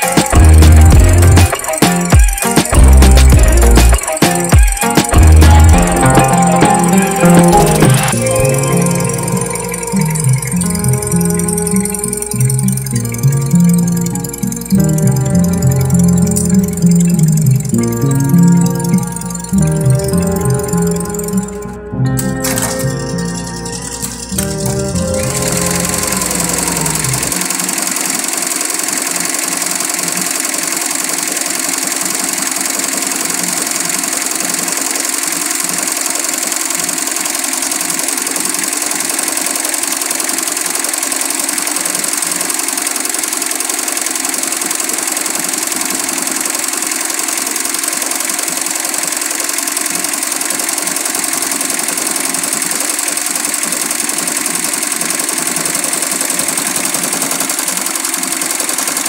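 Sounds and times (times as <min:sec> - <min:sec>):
embroidery machine stitching: 0:00.0 - 0:21.4, 0:22.4 - 0:59.0.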